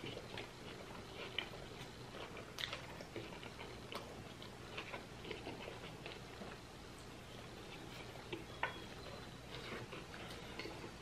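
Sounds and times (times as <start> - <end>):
close chewing with mouth clicks: 0.0 - 11.0.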